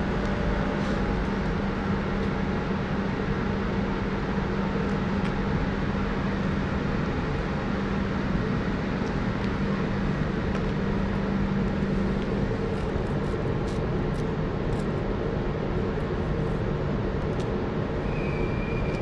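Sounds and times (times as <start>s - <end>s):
electric locomotive humming: 0.0s - 19.0s.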